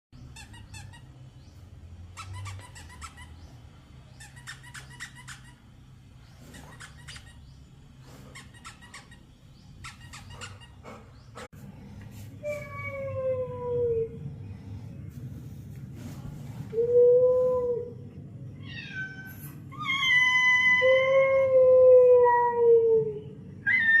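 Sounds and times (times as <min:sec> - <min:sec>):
low steady hum: 0:00.2 - 0:24.0.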